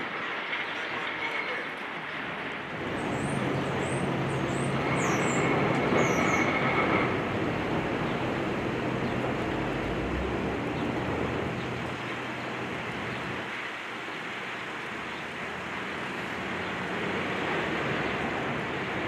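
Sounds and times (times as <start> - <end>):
rumble of vehicles: 0.0 - 19.0
low engine hum: 2.7 - 19.0.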